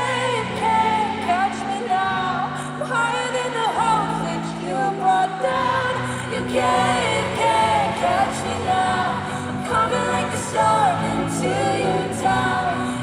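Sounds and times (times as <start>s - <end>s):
woman singing into a microphone: 0.0s - 13.0s.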